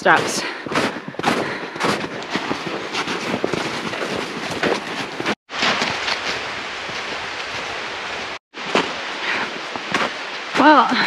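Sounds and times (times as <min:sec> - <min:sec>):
footsteps crunching through snow: 0:00.0 - 0:10.6.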